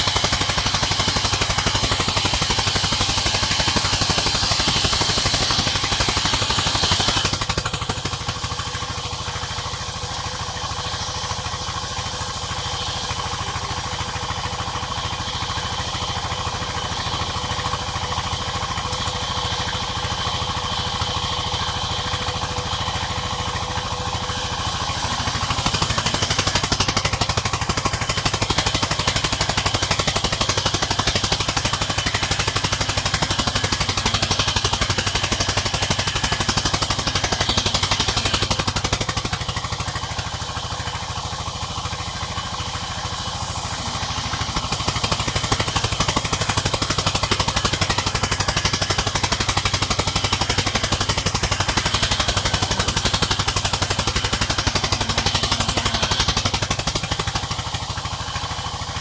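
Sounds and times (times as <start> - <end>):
sawmill saw rattling: 0.0 - 59.0.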